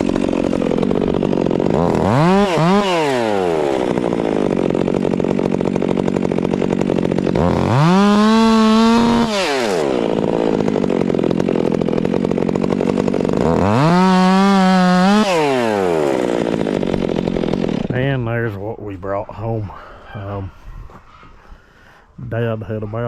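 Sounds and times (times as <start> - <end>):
chainsaw idling and revving: 0.0 - 23.0.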